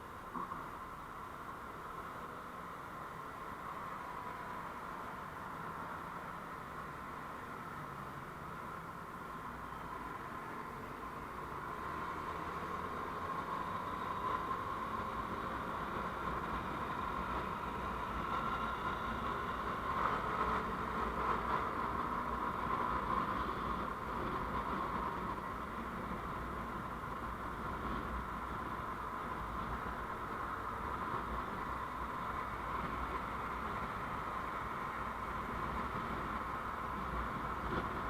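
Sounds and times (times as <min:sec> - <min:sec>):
vehicle running and road noise: 0:00.0 - 0:38.0.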